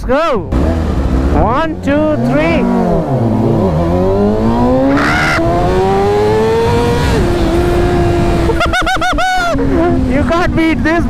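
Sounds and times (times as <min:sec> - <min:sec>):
motorcycle engine accelerating: 0:00.4 - 0:11.0.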